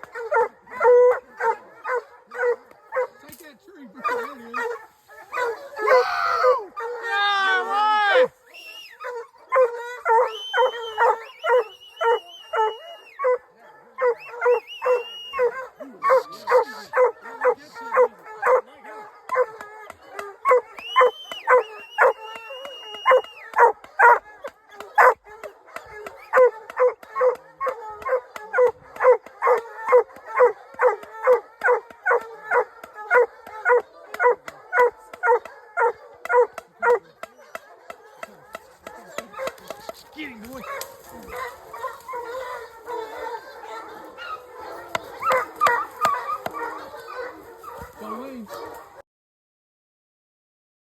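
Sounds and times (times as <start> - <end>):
dog howling: 0.0 - 3.3, 4.0 - 49.0
hounds barking: 0.0 - 49.0.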